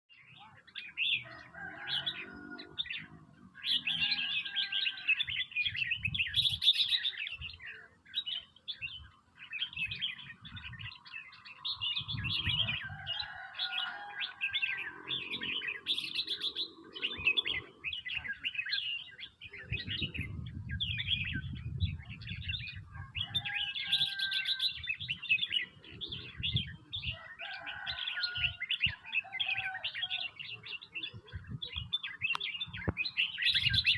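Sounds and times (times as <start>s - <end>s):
birds chirping and calling: 0.1s - 33.9s.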